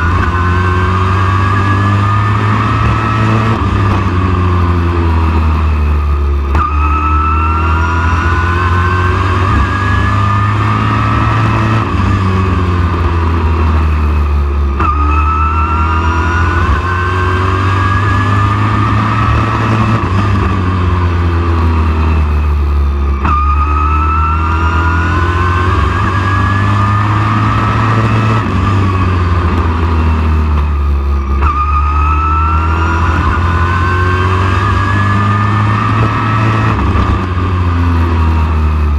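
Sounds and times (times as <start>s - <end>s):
race truck engine running hard: 0.0s - 38.9s.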